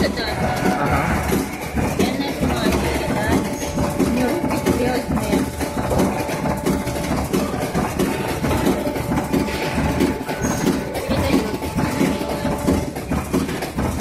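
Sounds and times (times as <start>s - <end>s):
machine clattering: 0.0s - 14.0s.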